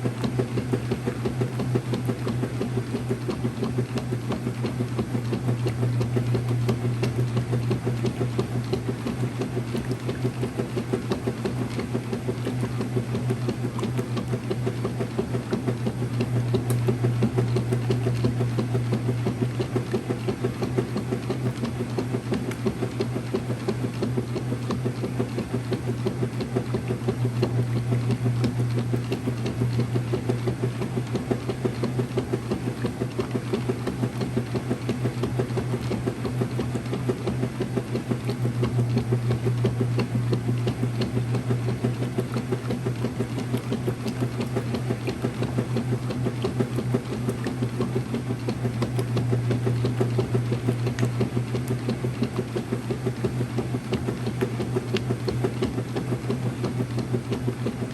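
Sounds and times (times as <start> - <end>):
washing machine running: 0.0 - 57.9.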